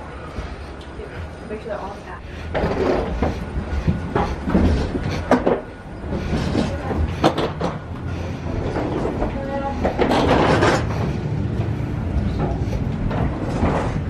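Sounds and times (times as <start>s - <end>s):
low rumble of walkway: 0.0s - 14.0s
footsteps knocking and clattering: 2.4s - 14.0s.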